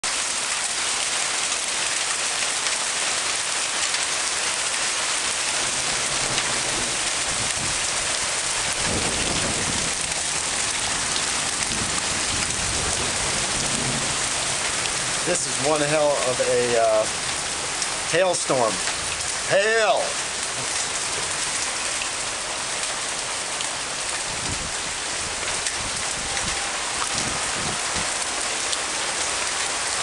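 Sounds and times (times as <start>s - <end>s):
torrential rain on roof: 0.0s - 30.0s.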